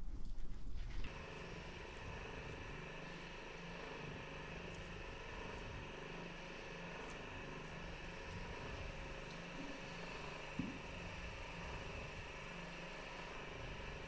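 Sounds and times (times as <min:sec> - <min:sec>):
motor humming: 0:00.9 - 0:14.0.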